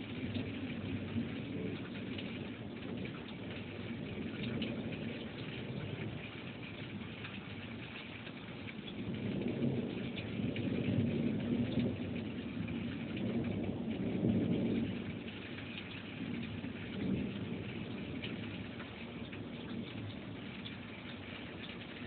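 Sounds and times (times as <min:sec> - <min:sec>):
rain falling steadily: 0:00.0 - 0:22.0
thunder rumbling: 0:00.0 - 0:22.0.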